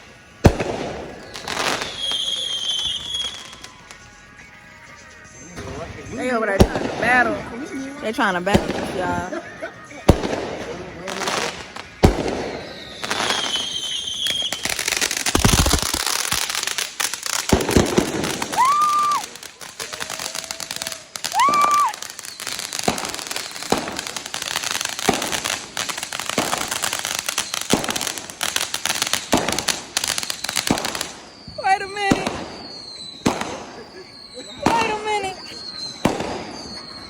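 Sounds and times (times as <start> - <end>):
firecrackers crackling: 0.0 - 37.0
firework bangs: 0.0 - 37.0
firework whistling: 0.0 - 37.0.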